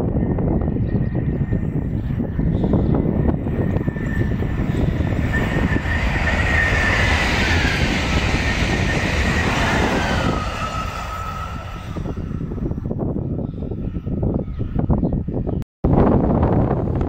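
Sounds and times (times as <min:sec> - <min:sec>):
train rushing past: 0:00.0 - 0:14.4
train whine dropping in pitch: 0:00.3 - 0:14.0.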